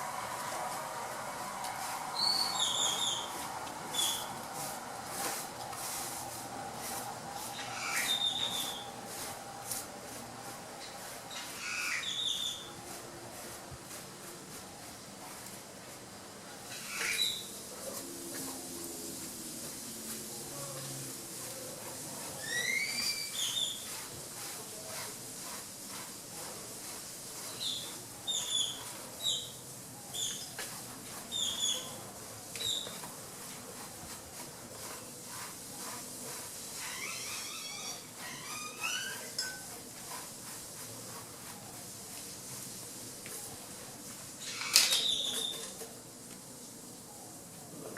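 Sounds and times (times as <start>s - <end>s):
faint steady hiss: 0.0s - 47.9s.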